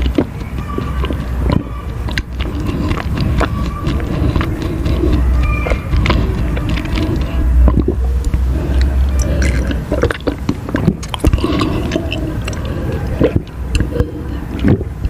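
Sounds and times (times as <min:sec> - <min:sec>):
wet chewing and biting: 0:00.0 - 0:15.0.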